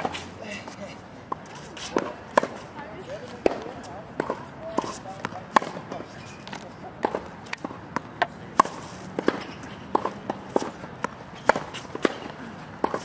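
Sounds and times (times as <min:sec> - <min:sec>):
tennis balls struck and bouncing: 0:01.2 - 0:13.0.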